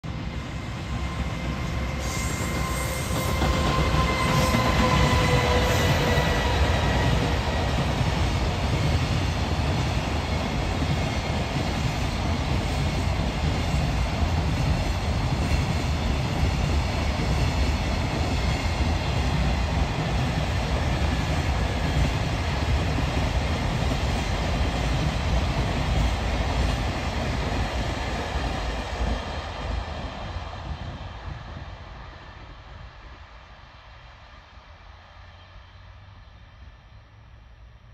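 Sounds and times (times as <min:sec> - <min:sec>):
train wagons rumbling on rails: 0:00.1 - 0:32.1
electric locomotive whine: 0:00.1 - 0:37.9.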